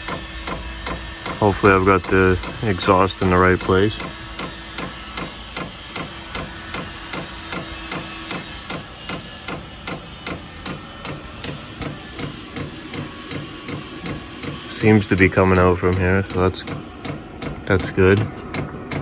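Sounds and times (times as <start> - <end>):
blower fan humming: 0.0 - 19.0
fuel pump ticking: 0.0 - 19.0.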